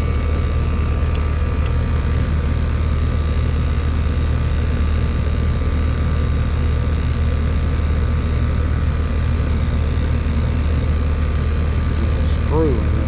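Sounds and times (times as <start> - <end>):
machine humming with hiss: 0.0 - 13.0.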